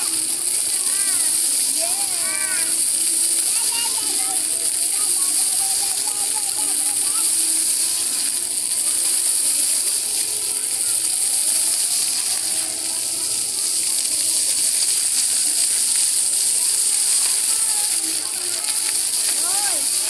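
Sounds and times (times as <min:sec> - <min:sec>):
faint voices: 0:00.0 - 0:20.0
fountain jets splashing on tiles: 0:00.0 - 0:20.0.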